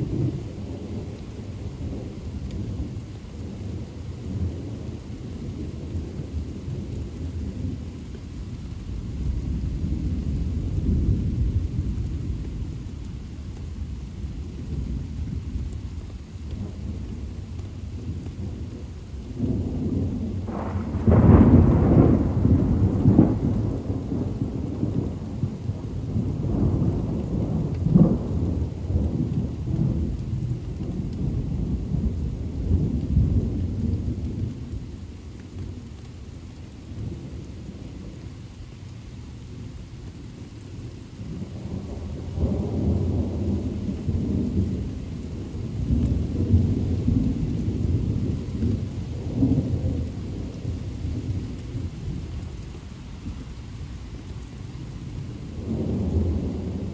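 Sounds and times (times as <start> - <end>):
thunder rumbling: 0.0 - 36.0, 39.5 - 56.9
steady rain: 0.0 - 56.9.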